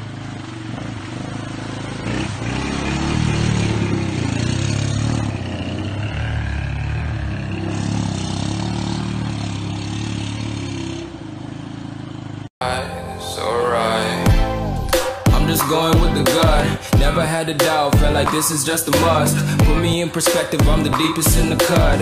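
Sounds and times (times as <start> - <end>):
atv engines droning: 0.0 - 22.0
rough ride noise: 0.0 - 22.0.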